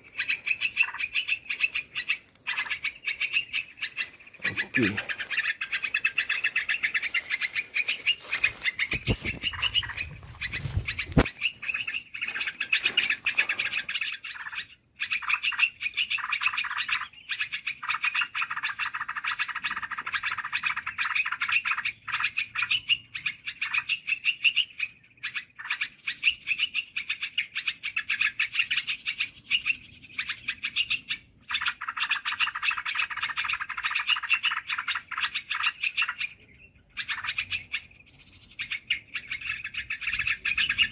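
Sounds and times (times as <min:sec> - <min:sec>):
small birds chattering: 0:00.0 - 0:40.9.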